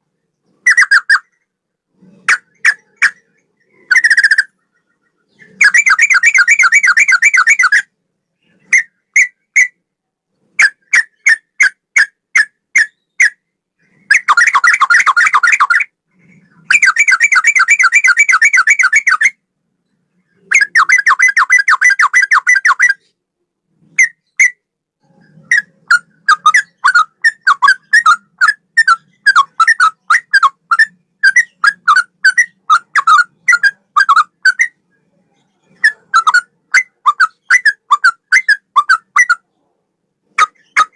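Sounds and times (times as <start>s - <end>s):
bulbul singing: 2.2s - 9.8s, 10.6s - 23.2s, 24.0s - 39.4s.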